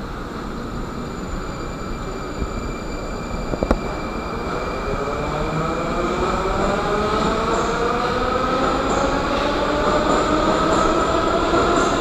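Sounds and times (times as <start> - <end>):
train electrical whine: 0.0 - 12.0.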